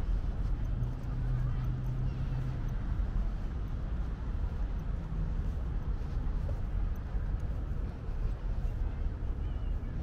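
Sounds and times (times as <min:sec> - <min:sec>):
city ambience rumble: 0:00.0 - 0:10.0.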